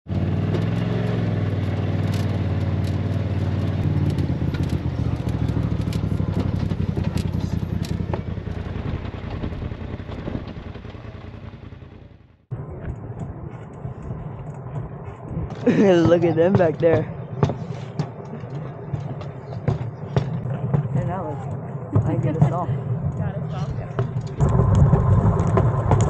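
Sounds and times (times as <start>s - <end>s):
engine drone: 0.1s - 26.0s.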